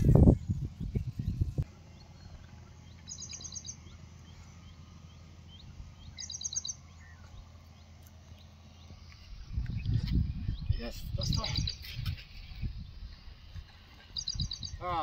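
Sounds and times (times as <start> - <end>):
low outdoor rumble: 0.0 - 15.0
faint bird chirps: 0.8 - 15.0.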